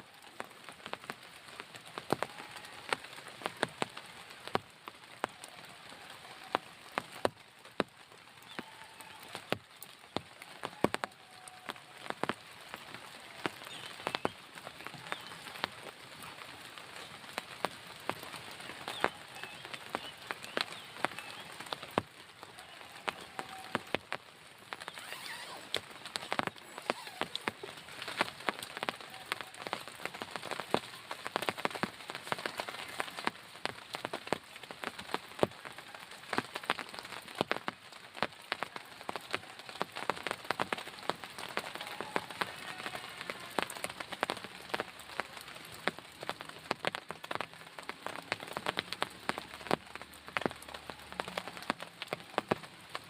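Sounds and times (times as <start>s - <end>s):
raindrops tapping on a surface: 0.0s - 53.0s
steady rain patter: 0.0s - 53.0s.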